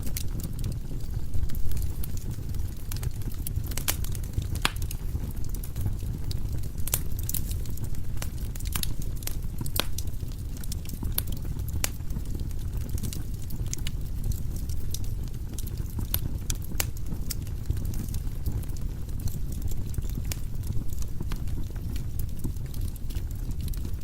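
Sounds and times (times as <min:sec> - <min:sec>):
fire flames rumbling: 0:00.0 - 0:24.0
logs crackling and popping: 0:00.0 - 0:24.0.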